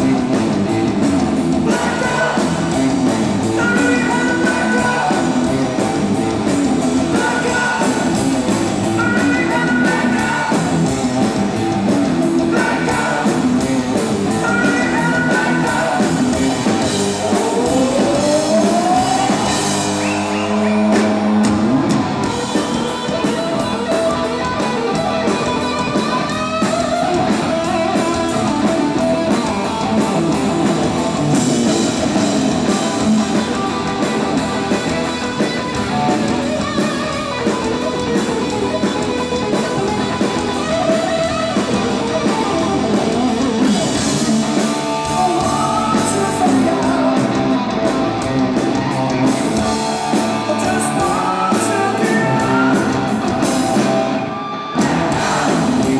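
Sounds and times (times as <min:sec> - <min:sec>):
electric guitar lead with bent notes: 0:00.0 - 0:55.9
live hard rock band: 0:00.0 - 0:55.9.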